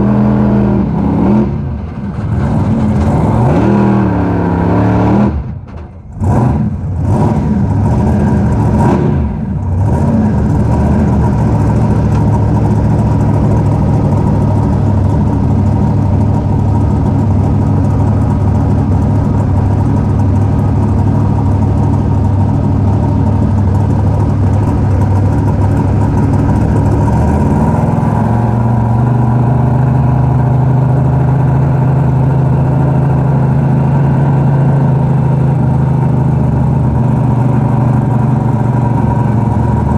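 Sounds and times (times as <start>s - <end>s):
truck engine from inside cab: 0.0s - 39.9s.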